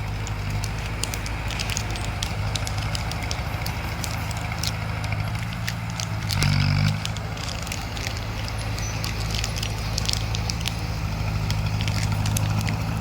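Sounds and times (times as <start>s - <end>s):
bulldozer diesel engine running: 0.0s - 13.0s
tracks crackling over debris: 0.0s - 13.0s.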